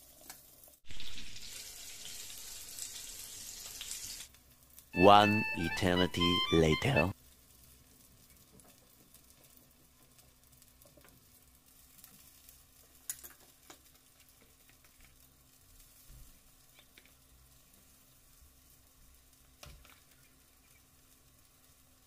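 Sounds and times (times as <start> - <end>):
fritters sizzling in oil: 0.0 - 4.9, 7.1 - 22.0.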